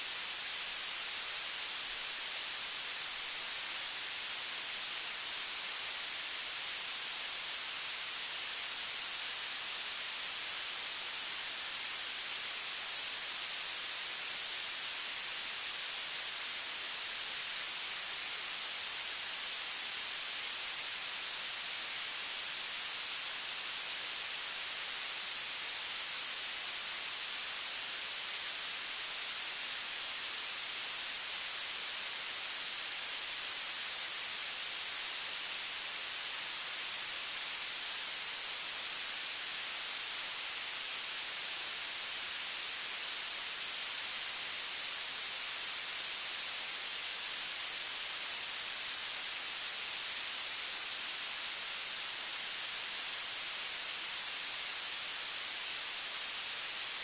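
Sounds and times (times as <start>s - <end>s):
static hiss: 0.0s - 57.0s.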